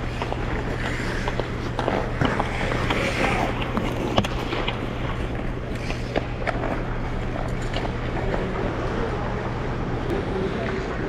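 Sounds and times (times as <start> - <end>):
ice skates scraping on ice: 0.0 - 9.3
steady low hum: 0.0 - 11.0.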